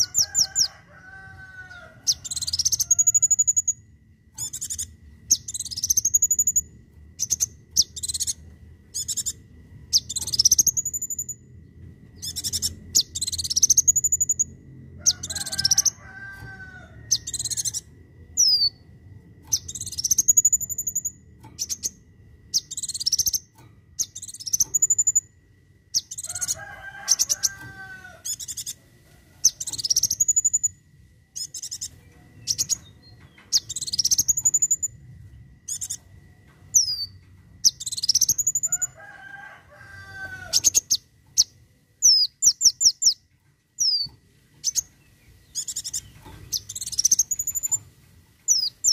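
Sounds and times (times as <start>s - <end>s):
lower chattering bird call: 2.0s - 3.8s, 4.4s - 11.4s, 12.2s - 14.5s, 15.1s - 18.8s, 19.5s - 25.3s, 25.9s - 35.0s, 36.7s - 39.0s, 40.4s - 47.9s.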